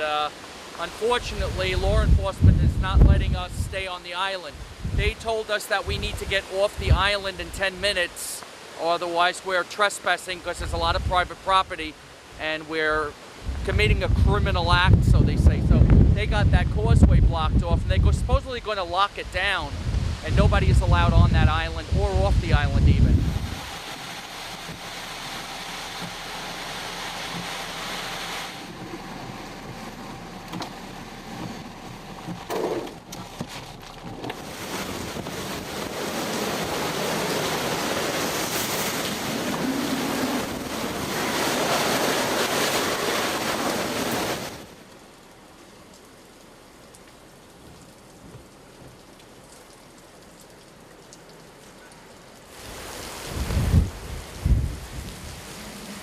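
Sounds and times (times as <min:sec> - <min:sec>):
heavy rain and wind: 0:00.0 - 0:56.0.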